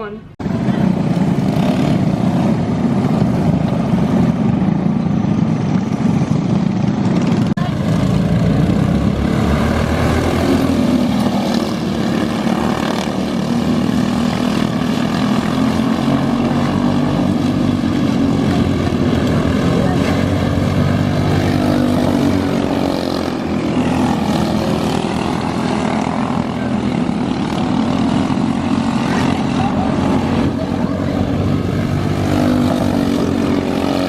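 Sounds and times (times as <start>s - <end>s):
kart engine droning: 0.0s - 34.0s.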